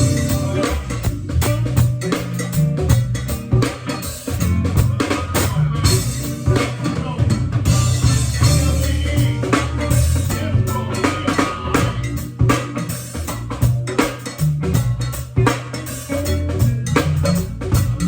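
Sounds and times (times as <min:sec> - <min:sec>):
bass line: 0:00.0 - 0:18.0
drum kit steady beat: 0:00.0 - 0:18.0.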